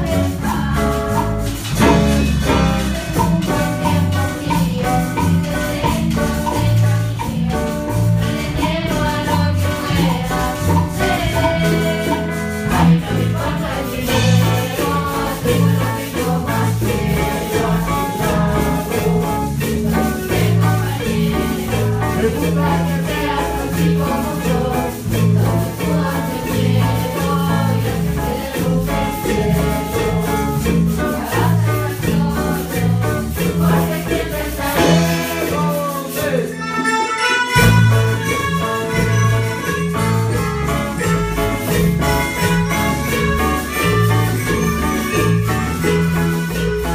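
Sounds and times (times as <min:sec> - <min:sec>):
drum kit beat: 0:00.0 - 0:46.9
hand drums: 0:00.0 - 0:46.9
melodicas playing: 0:00.0 - 0:46.9
shakers: 0:00.0 - 0:46.9
students singing: 0:00.0 - 0:46.9.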